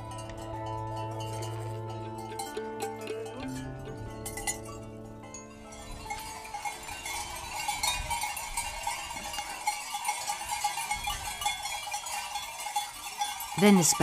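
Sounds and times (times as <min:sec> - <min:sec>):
sheep bells clanking: 0:00.0 - 0:14.0.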